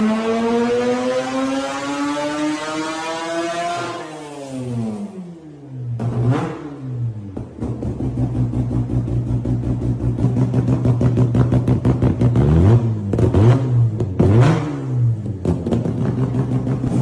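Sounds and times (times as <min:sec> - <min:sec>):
engine revving: 0:00.0 - 0:05.3, 0:06.0 - 0:17.0.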